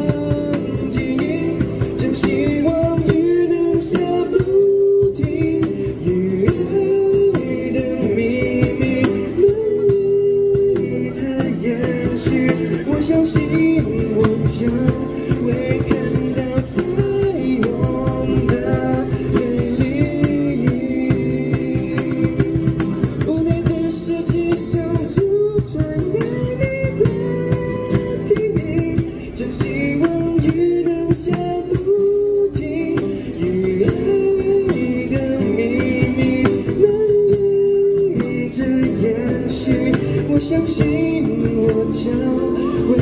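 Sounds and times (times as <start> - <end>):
cajon beat: 0.0 - 43.0
man singing a pop ballad: 0.0 - 43.0
strummed acoustic guitar: 0.0 - 43.0.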